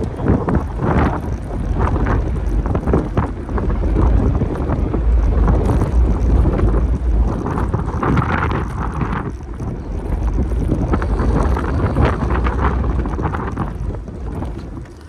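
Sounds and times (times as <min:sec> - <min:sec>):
street noise: 0:00.0 - 0:15.0
wind buffeting microphone: 0:00.0 - 0:15.0.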